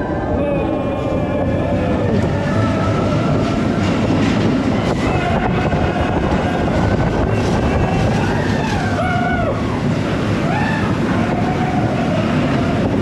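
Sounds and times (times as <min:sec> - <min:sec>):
ride vehicle running on track: 0:00.0 - 0:13.0.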